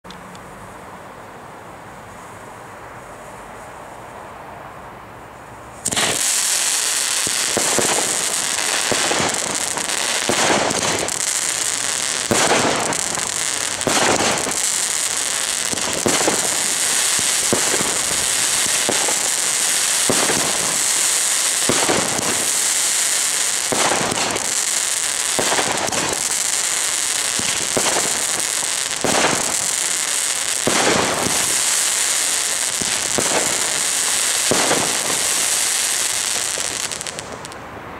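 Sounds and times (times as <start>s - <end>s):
firework crackle: 5.8s - 37.6s
firework shots: 5.8s - 37.6s.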